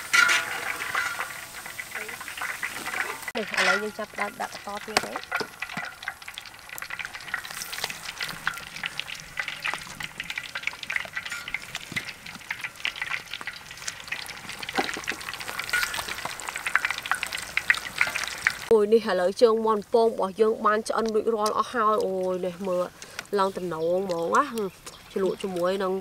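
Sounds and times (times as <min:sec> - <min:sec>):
deep-frying sizzle and popping: 0:00.0 - 0:26.0.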